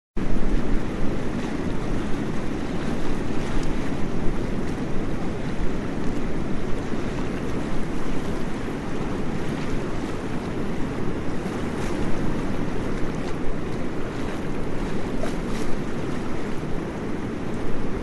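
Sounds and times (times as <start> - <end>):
waterfall roaring: 0.2 - 18.0.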